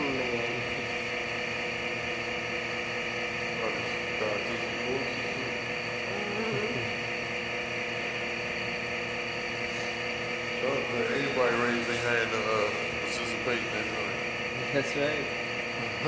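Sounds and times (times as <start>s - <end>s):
mechanical whine: 0.0s - 16.0s.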